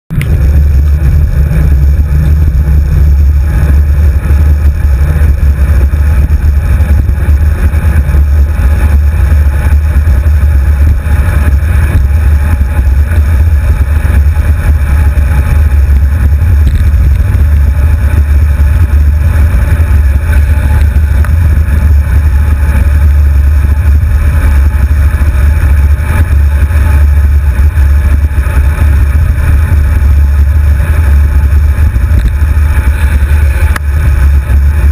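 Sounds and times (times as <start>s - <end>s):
road vibration rumble: 0.0s - 34.9s
wind buffeting: 0.1s - 34.9s.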